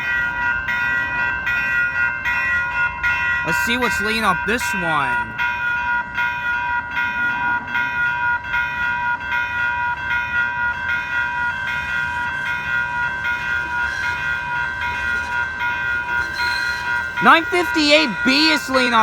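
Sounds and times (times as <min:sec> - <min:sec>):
railway warning bell ringing: 0:00.0 - 0:19.0.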